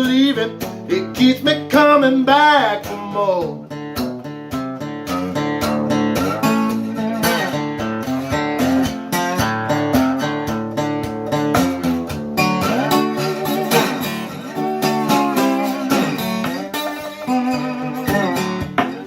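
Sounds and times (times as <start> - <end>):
acoustic guitar strumming and picking: 0.0 - 19.0.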